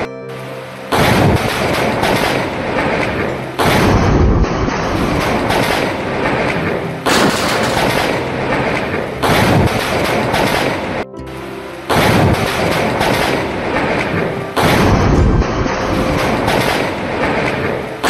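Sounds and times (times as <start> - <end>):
thunderclap: 1.0 - 11.0, 11.9 - 17.8.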